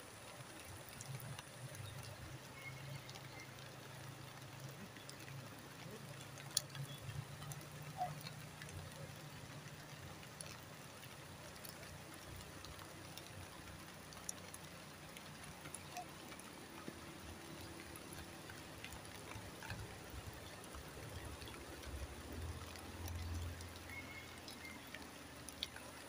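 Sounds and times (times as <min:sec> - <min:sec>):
flowing river water: 0:00.0 - 0:26.0
light drizzle ticks: 0:00.0 - 0:26.0.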